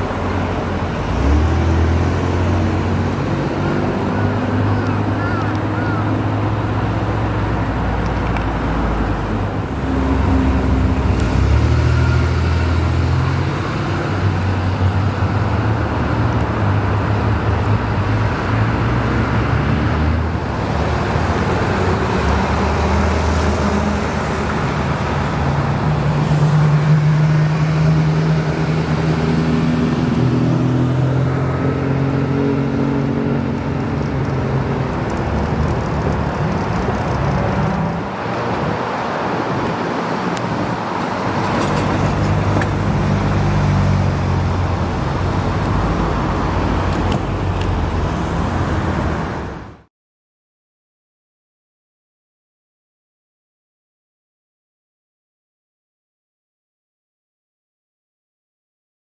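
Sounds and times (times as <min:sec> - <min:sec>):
sports cars accelerating: 0:00.0 - 0:49.5.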